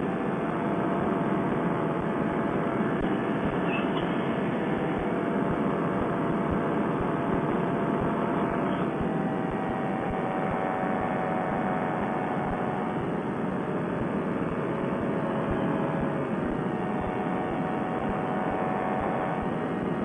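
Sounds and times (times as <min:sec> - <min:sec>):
paramotor engine drone: 0:00.0 - 0:20.0.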